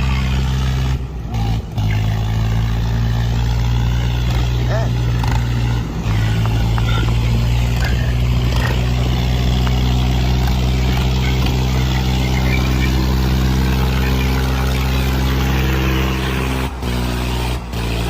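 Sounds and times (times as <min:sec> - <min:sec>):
tractor diesel engines under load: 0:00.0 - 0:18.0.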